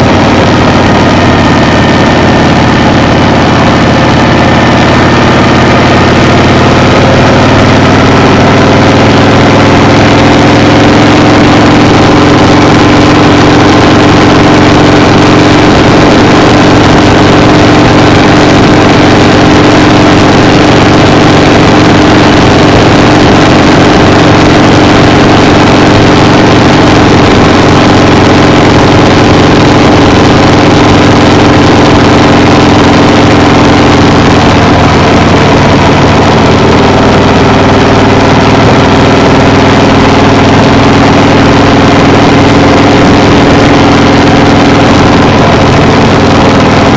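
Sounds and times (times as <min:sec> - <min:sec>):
engine running steadily: 0:00.0 - 0:46.9.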